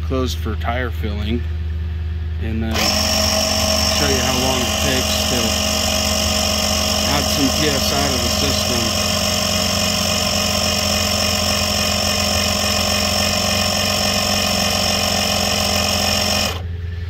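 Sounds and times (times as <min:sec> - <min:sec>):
air compressor running: 0:02.7 - 0:17.0.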